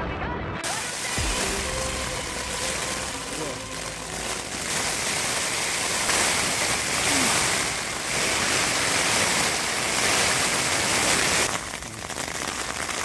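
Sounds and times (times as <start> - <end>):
heavy rain: 0.6 - 13.0.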